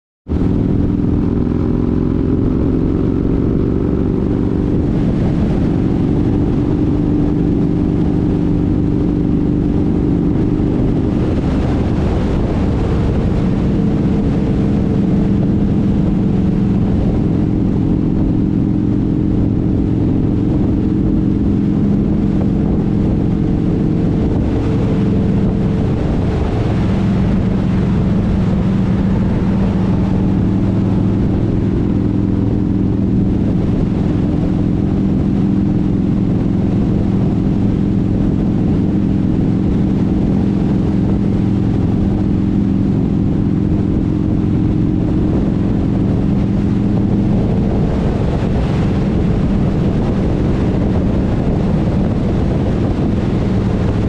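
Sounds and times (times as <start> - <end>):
motorcycle engine running: 0.3 - 54.0
wind rush: 0.3 - 54.0.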